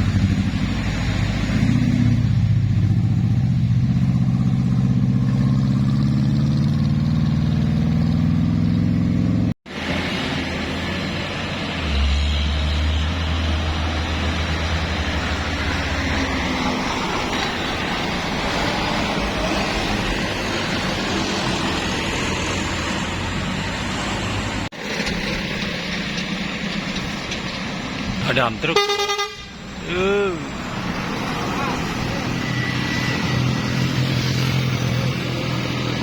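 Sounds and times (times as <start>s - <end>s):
bus engine running: 0.0s - 36.0s
passing traffic: 0.0s - 36.0s.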